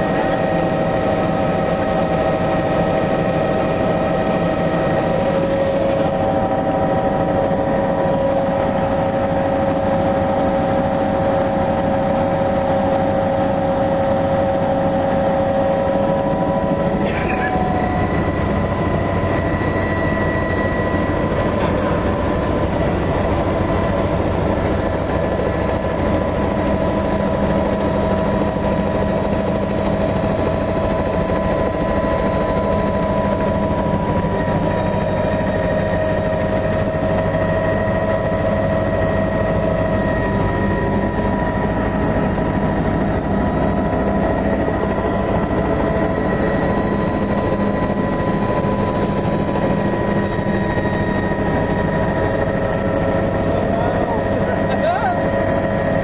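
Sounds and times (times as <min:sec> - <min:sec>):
helicopter drone and whine: 0:00.0 - 0:56.0.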